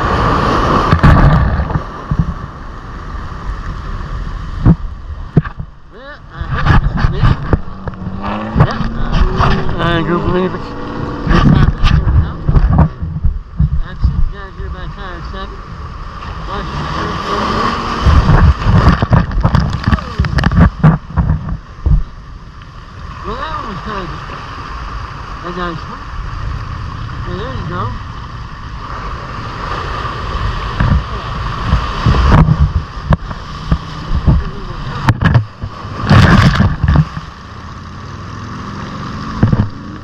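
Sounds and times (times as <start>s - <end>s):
sea water splashing over rocks: 0.0s - 12.9s, 15.9s - 40.0s
wind buffeting microphone: 0.0s - 40.0s.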